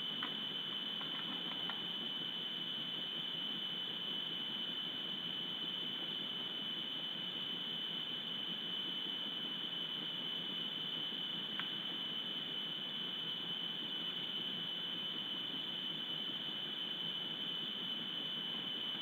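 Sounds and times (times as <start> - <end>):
high-pitched electronic whine: 0.0 - 19.0.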